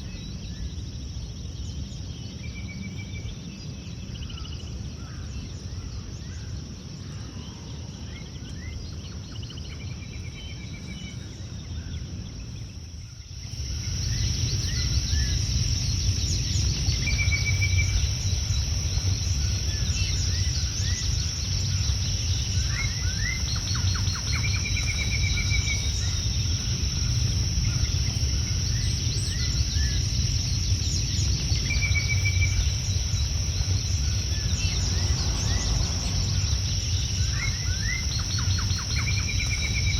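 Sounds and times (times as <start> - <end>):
high insect drone: 0.0 - 39.9
low rumbling background: 0.0 - 39.9
wild birds chirping and trilling: 0.0 - 39.9.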